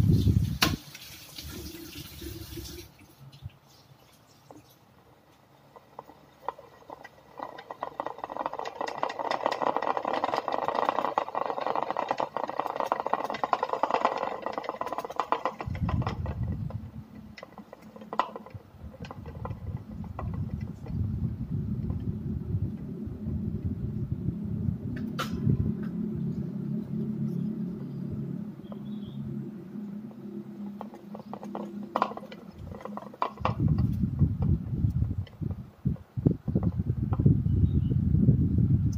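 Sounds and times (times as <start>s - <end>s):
low steady rumble: 5.2s - 38.9s
propeller spinning with whir: 6.3s - 38.9s.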